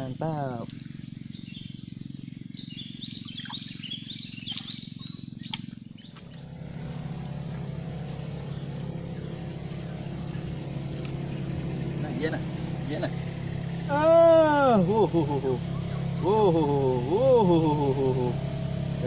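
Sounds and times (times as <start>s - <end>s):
birds chirping: 0.0s - 19.0s
low drone: 0.0s - 19.0s
steady low hum: 0.0s - 19.0s.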